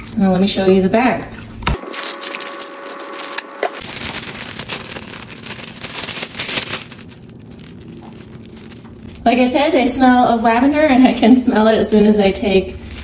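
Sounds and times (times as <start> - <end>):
plastic bag crinkling: 1.8 - 13.0.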